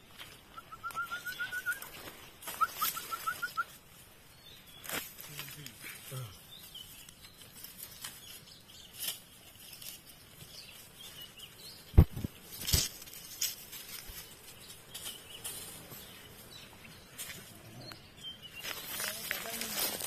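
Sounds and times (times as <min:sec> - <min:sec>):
rustling in dry leaves: 0:00.0 - 0:20.0.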